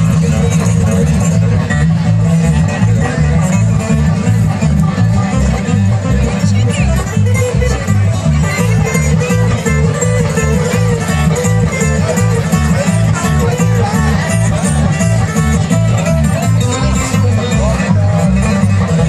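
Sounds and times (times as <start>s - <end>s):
bluegrass string band playing: 0.0s - 19.0s
pulsing bass rhythm: 0.0s - 19.0s.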